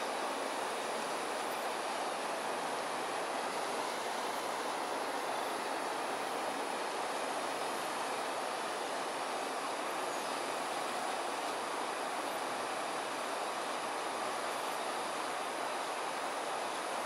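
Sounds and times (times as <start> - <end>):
water pouring from culverts: 0.0 - 17.0.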